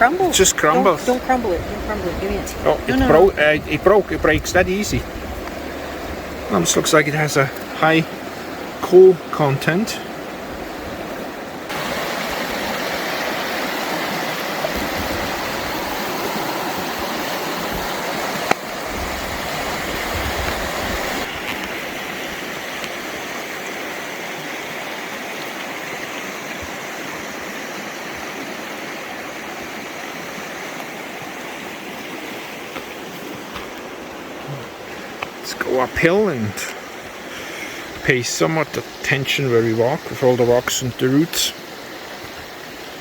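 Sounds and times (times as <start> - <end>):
river water rushing over rocks: 0.0 - 43.0.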